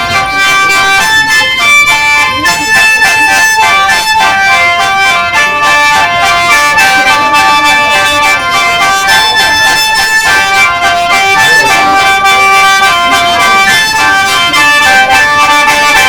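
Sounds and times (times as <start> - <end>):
bamboo free-reed pipes playing: 0.0 - 16.0.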